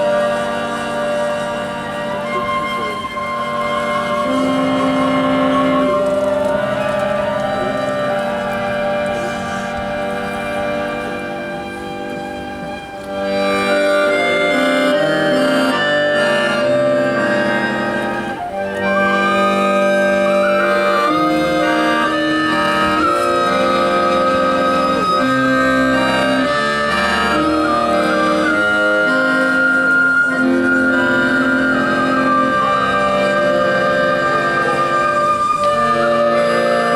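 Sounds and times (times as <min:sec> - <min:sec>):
folk band with accordion: 0:00.0 - 0:36.9.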